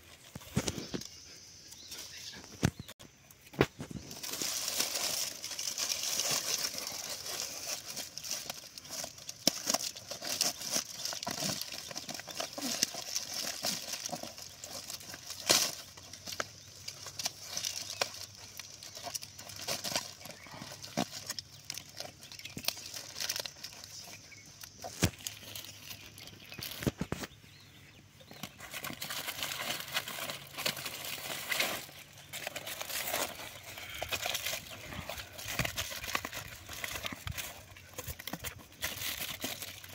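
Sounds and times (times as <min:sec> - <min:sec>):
aluminium foil crinkling: 0:03.6 - 0:27.3, 0:28.3 - 0:39.9.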